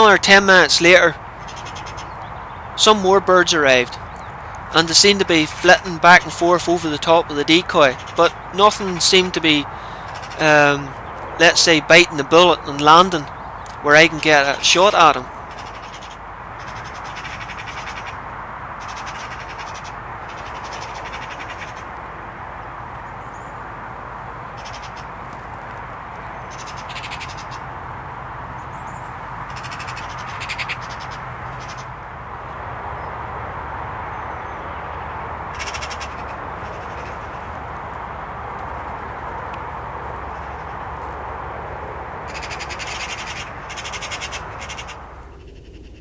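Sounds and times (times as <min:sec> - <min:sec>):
magpies chattering: 0:00.0 - 0:33.2, 0:33.8 - 0:46.0
steady rushing background: 0:03.9 - 0:46.0.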